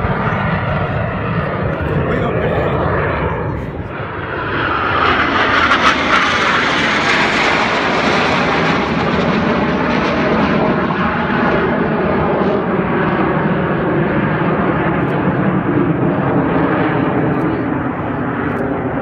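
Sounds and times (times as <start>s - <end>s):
jet aircraft flying overhead: 0.0s - 19.0s.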